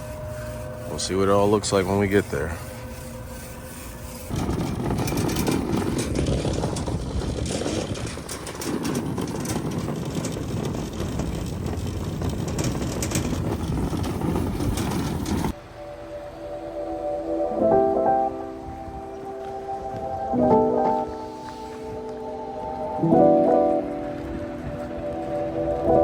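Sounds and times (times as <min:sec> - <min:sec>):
truck engine and road noise: 0:00.0 - 0:26.0.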